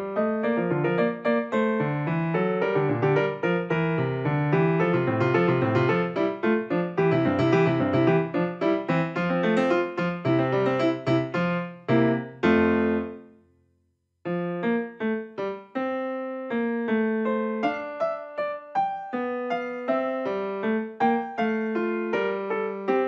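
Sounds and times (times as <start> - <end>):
piano music: 0.0 - 13.4, 14.3 - 23.0.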